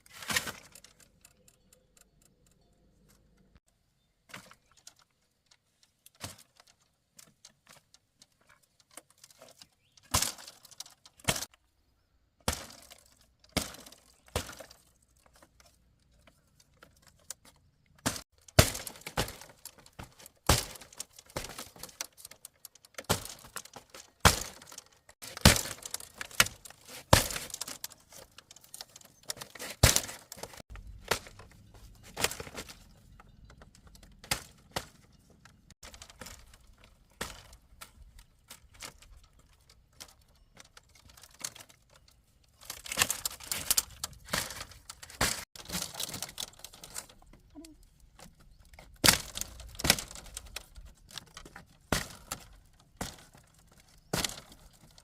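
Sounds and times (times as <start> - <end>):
sharp cracks and knocks on bamboo: 0.0 - 1.3, 4.3 - 11.6, 12.4 - 55.0.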